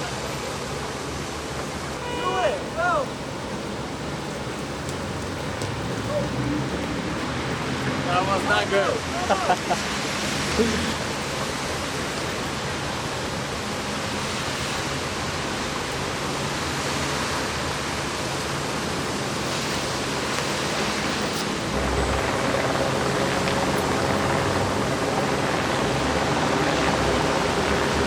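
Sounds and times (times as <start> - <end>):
floodwater rushing down a street: 0.0 - 28.0
vehicle engines humming: 0.0 - 28.0.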